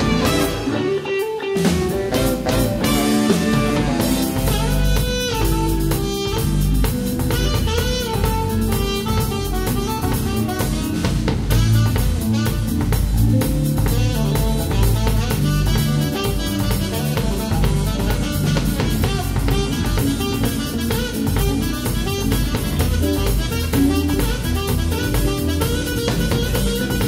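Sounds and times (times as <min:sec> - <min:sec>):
bass guitar: 0:00.0 - 0:27.0
drum kit beat: 0:00.0 - 0:27.0
electric guitar: 0:00.0 - 0:27.0
horn section melody: 0:00.0 - 0:27.0.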